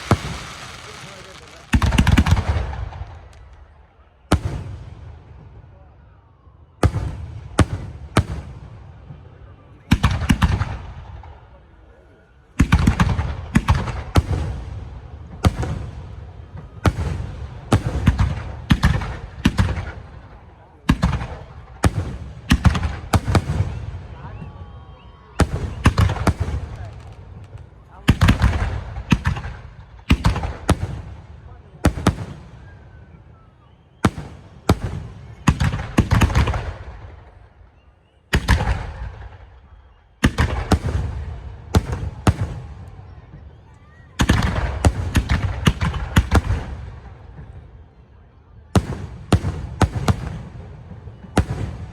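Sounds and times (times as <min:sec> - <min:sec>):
fireworks bangs with low rumble: 0:00.0 - 0:51.9.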